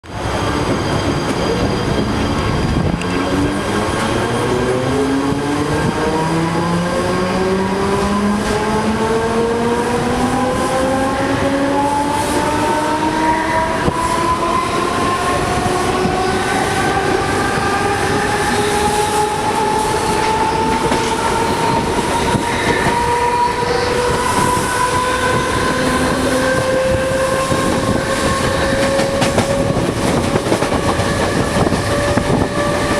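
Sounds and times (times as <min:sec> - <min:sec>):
train rumble: 0:00.0 - 0:32.9.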